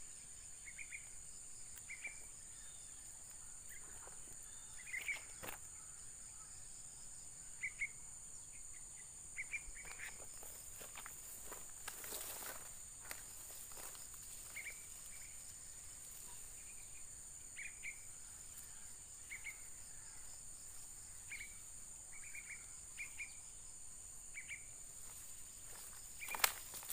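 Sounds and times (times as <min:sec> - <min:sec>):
insect chirps: 0:00.0 - 0:26.9
insects droning: 0:00.0 - 0:26.9.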